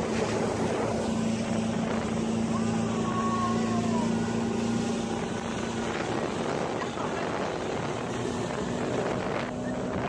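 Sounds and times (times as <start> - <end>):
rush of wind and water: 0.0 - 10.0
speedboat engine running: 0.0 - 10.0.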